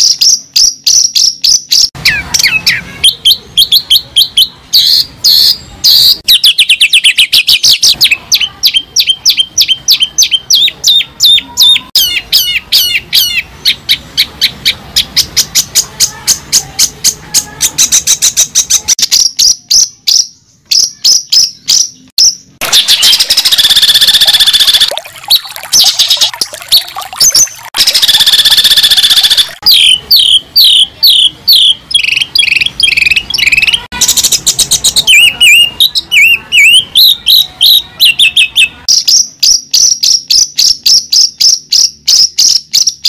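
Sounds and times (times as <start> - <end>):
bird chirping and trilling: 0.0 - 43.0.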